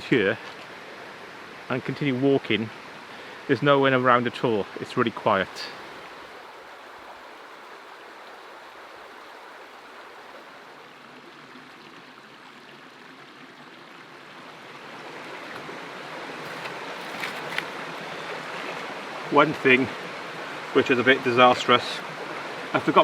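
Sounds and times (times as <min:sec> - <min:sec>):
river running over rocks: 0:00.1 - 0:23.0.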